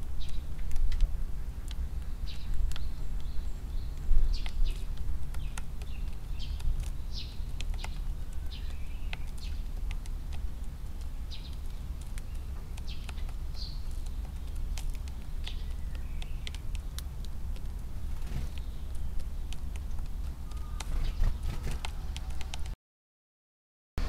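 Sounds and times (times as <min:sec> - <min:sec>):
birds pecking grain in a tray: 0:00.0 - 0:22.7
sparrows chirping: 0:00.0 - 0:22.7.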